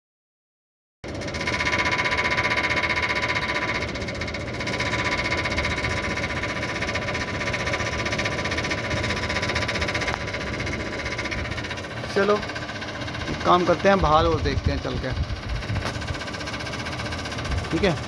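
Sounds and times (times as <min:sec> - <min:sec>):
air conditioner humming: 0:01.1 - 0:18.0
fan blade rattling: 0:01.1 - 0:18.0.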